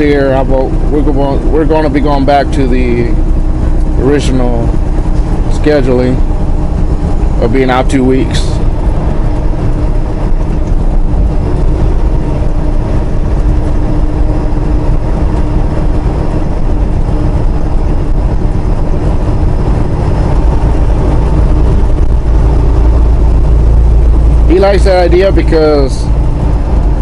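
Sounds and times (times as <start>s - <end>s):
truck engine drone and road noise: 0.0s - 27.0s.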